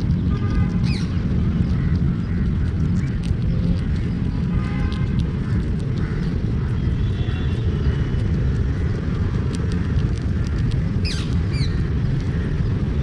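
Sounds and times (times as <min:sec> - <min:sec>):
low rumble: 0:00.0 - 0:13.0
squirrel gnawing clicks: 0:00.0 - 0:13.0.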